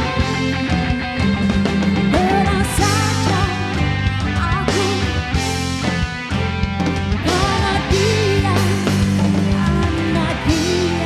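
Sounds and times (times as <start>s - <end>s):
live band playing rock music: 0.0s - 11.0s.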